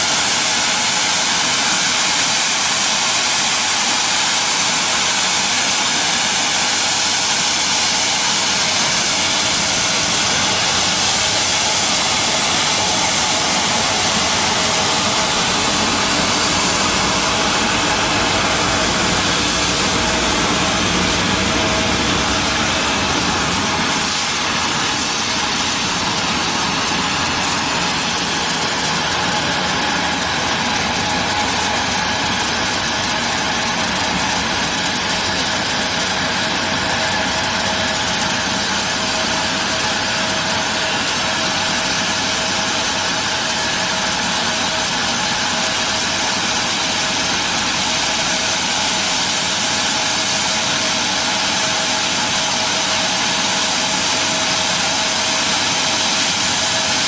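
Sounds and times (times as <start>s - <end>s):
engine running with whine: 4.4s - 57.0s.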